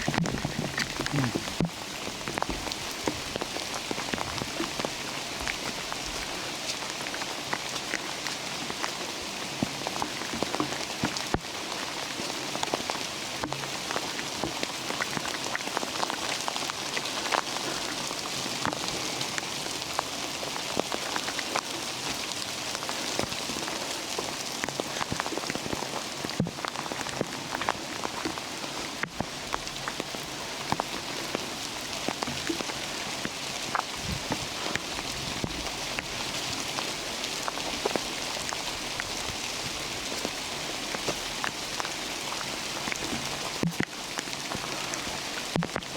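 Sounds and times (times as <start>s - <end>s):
raindrops striking: 0.0s - 45.9s
steady rain: 0.0s - 45.9s.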